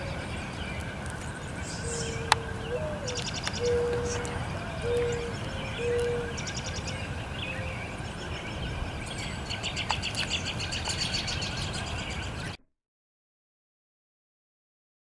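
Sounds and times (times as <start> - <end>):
birds chirping and trilling: 0.0 - 12.6.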